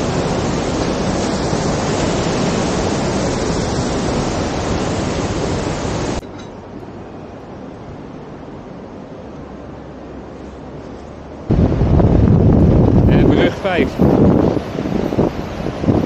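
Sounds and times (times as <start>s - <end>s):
mountain river rushing: 0.0s - 16.0s.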